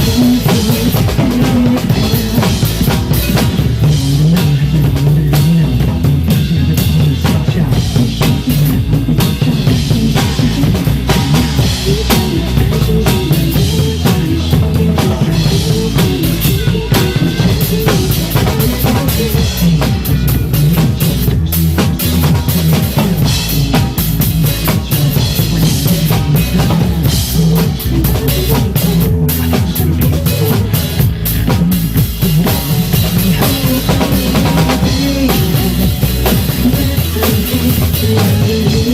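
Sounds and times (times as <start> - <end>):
drum kit playing: 0.0 - 38.9
recorded pop song: 0.0 - 38.9.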